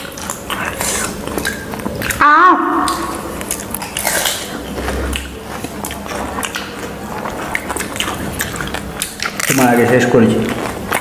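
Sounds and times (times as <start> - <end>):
chewing and biting: 0.0 - 2.2, 2.8 - 11.0
wet mouth clicks: 0.0 - 9.8.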